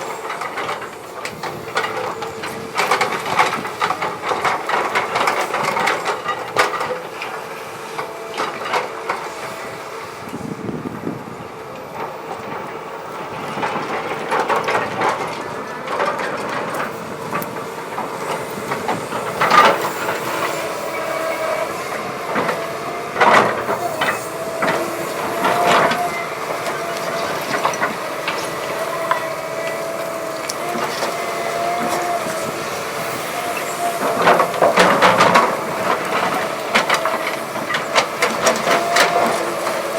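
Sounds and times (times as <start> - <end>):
excavator engine and hydraulics whining: 0.0 - 39.9.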